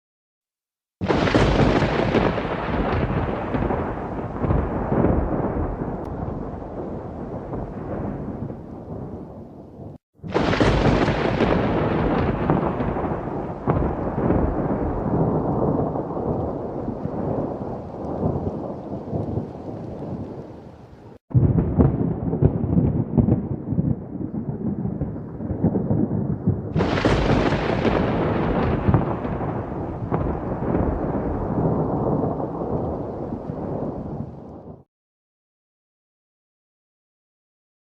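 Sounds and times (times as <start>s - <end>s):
sharp thunder crack: 1.0s - 20.3s, 21.3s - 34.9s
rolling thunder: 1.0s - 34.9s.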